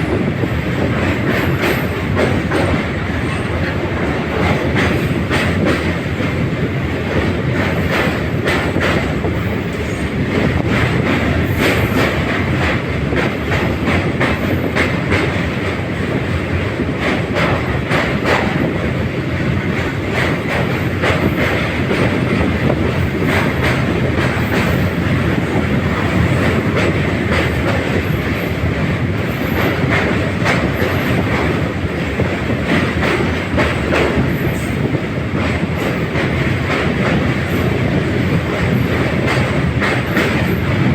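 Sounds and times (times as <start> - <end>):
train wheels rumbling: 0.0 - 40.9
wheels clacking over rail joints: 0.0 - 40.9.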